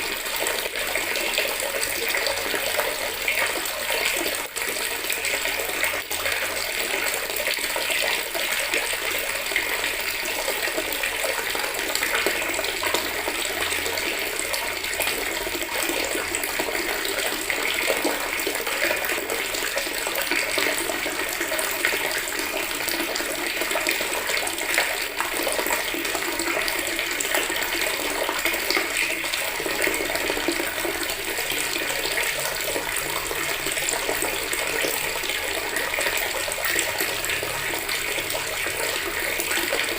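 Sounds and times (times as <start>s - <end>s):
tap water running into bucket: 0.0s - 39.9s.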